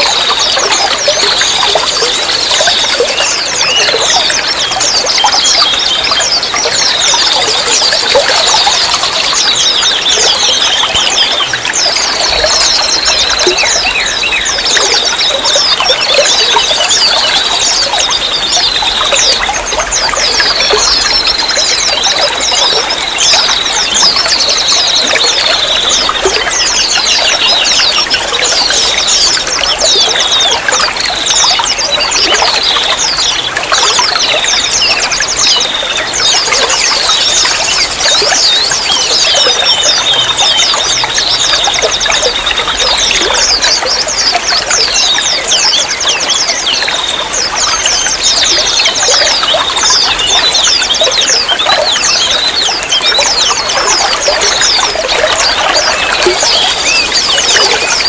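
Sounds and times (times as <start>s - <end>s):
running water trickling: 0.0s - 58.0s.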